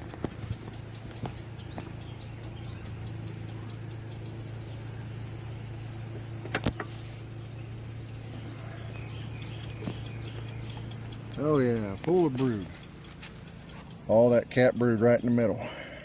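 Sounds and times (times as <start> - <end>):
fast faint ticking: 0.0 - 16.0
honeybees humming: 0.0 - 16.0.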